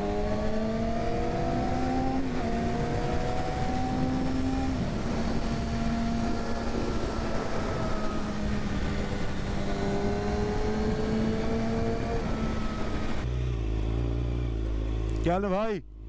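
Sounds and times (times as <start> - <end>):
wind noise: 0.0 - 13.3
second engine rising in pitch: 0.0 - 15.5.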